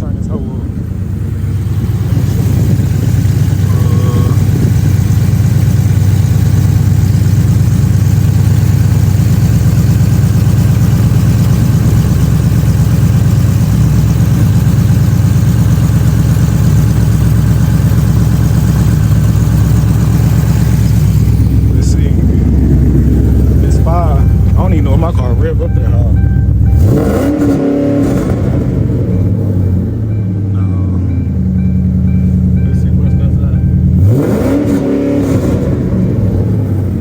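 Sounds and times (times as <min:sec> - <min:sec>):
car engine running loud: 0:00.0 - 0:37.0.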